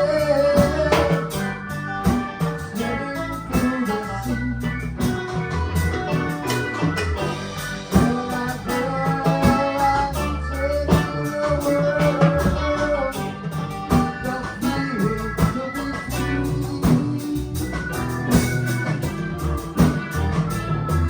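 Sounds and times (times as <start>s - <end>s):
bass guitar: 0.0s - 21.0s
drum kit beat: 0.0s - 21.0s
electric guitar: 0.0s - 21.0s.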